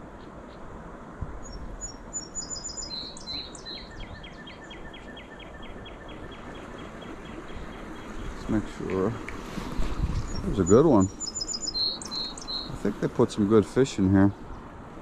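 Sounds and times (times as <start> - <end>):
steady background hiss: 0.0 - 15.0
small songbirds singing: 1.4 - 14.7.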